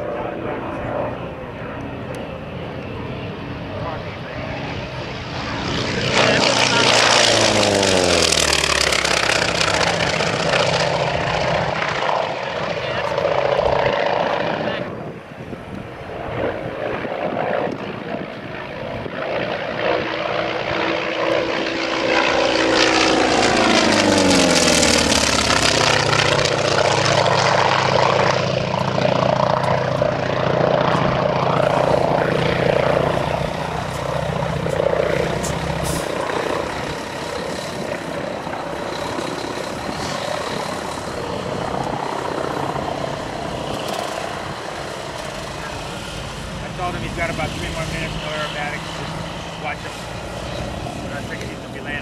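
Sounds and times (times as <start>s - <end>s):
propeller plane flying by: 0.0s - 52.0s.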